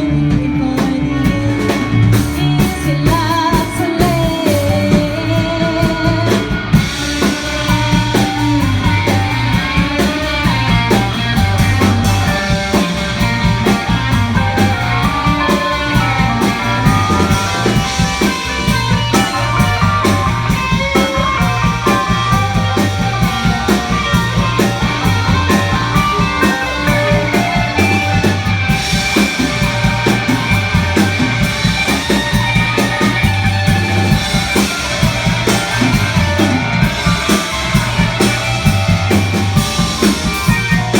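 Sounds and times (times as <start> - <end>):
drum kit beat: 0.0 - 40.9
electric guitar lines: 0.0 - 40.9
repeating bass line: 0.0 - 40.9.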